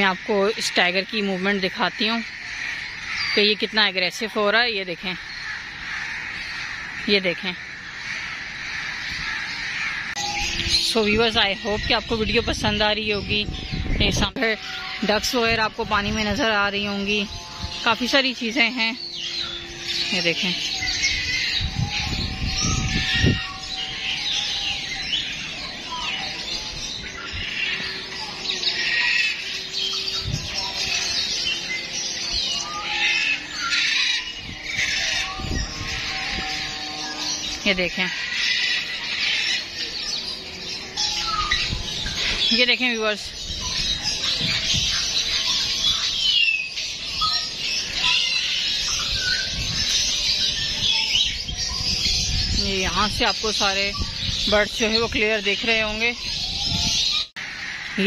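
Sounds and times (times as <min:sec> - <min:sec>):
birds chirping and squawking: 0:00.0 - 0:58.0.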